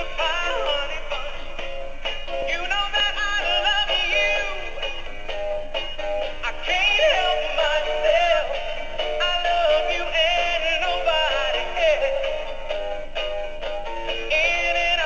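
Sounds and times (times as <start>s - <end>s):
backing tune of steady notes: 0.0s - 15.0s.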